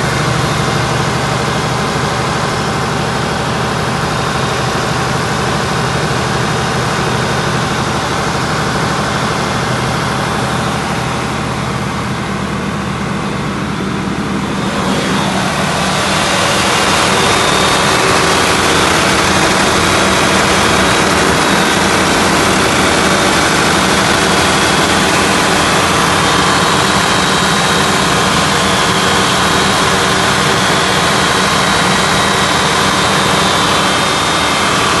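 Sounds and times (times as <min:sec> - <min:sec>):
diesel generator engine running: 0:00.0 - 0:35.0.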